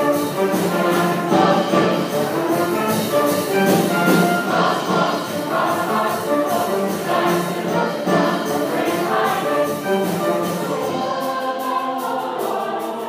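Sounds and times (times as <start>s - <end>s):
choir singing in harmony: 0.0s - 13.0s
instrumental accompaniment with beat: 0.0s - 13.0s.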